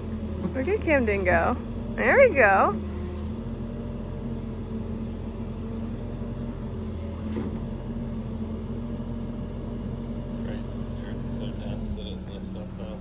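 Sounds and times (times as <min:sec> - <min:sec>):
excavator engine humming: 0:00.0 - 0:13.0.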